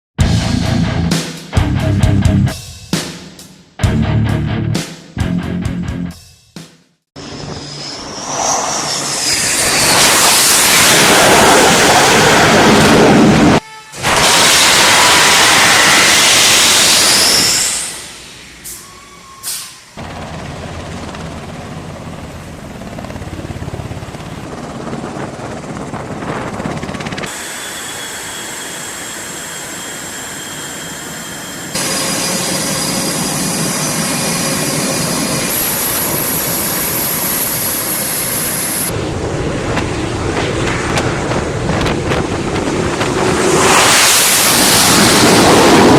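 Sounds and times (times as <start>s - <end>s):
jet engines running: 7.2s - 18.8s, 19.8s - 45.9s
high turbine whine: 7.2s - 45.9s.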